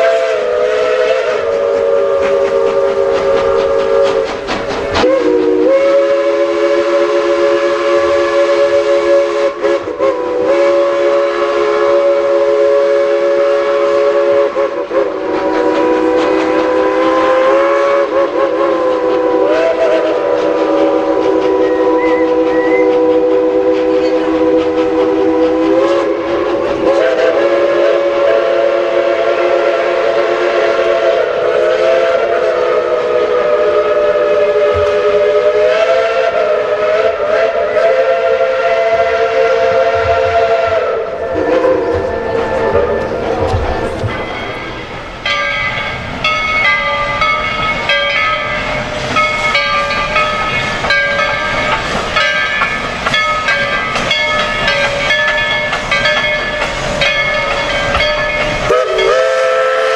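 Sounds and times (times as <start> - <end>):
steam locomotive chime whistle: 0.0 - 59.9.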